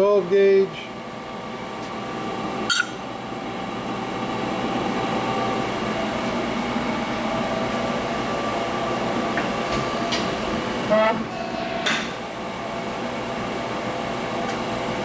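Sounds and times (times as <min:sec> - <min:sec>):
press brake machine hum: 0:01.8 - 0:15.0.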